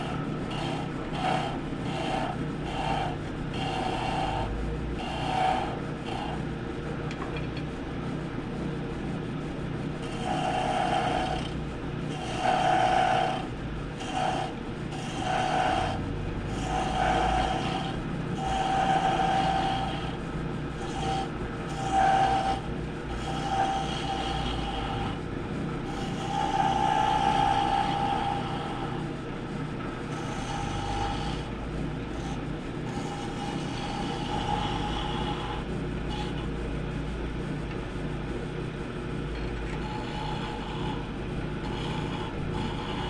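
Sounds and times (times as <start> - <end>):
wood lathe motor humming: 0.0 - 6.5, 9.9 - 36.8, 39.3 - 43.0.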